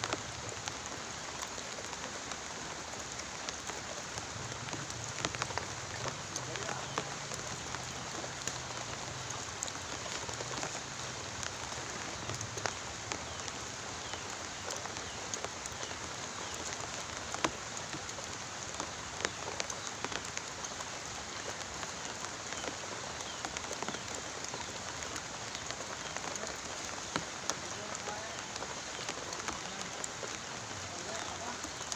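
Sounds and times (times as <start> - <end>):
steady rain patter: 0.0 - 31.9.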